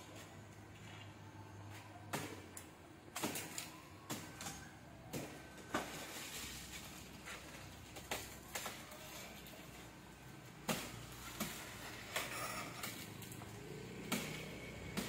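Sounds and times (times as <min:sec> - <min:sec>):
blade chopping palm fronds: 0:02.1 - 0:15.0.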